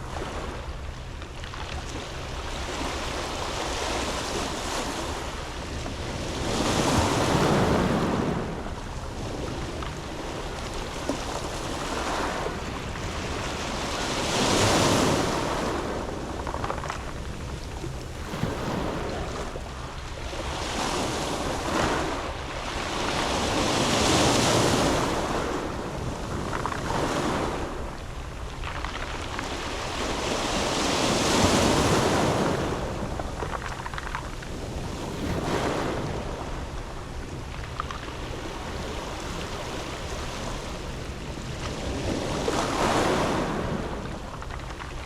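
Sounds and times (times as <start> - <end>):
waves breaking on pebble beach: 0.0 - 45.0.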